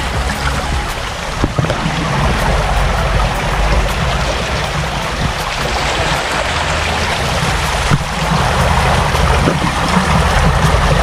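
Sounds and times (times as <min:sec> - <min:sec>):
stream water over rocks: 0:00.0 - 0:11.0.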